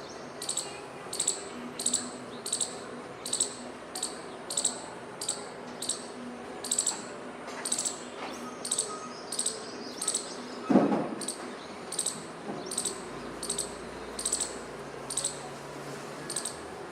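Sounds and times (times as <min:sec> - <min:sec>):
squirrel chirping calls: 0:00.4 - 0:10.4, 0:11.2 - 0:15.5, 0:16.3 - 0:16.6.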